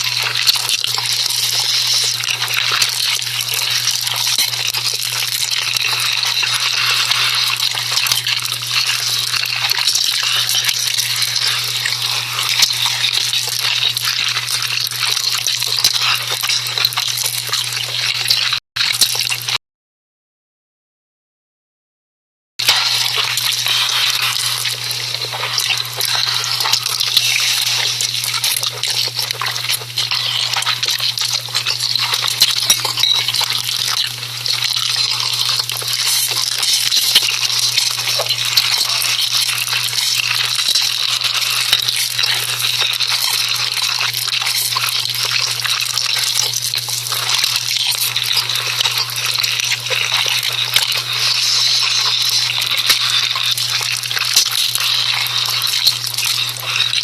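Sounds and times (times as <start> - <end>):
wet crackly noodle noises: 0.0 - 19.6, 22.6 - 57.0.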